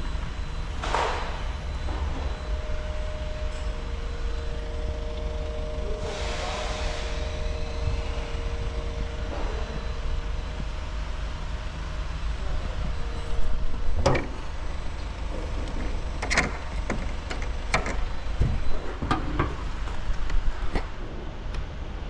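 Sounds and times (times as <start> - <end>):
steady low rumble: 1.4 - 22.0.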